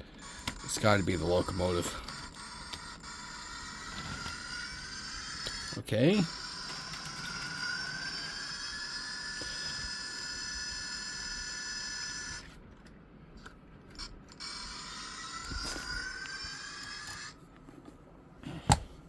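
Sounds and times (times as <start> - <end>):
model train motor whining: 0.1 - 12.6, 14.0 - 17.4.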